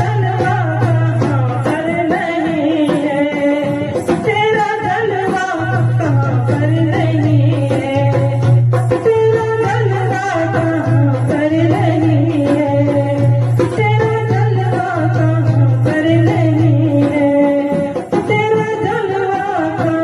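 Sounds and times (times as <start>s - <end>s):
person singing devotional music: 0.0s - 20.0s.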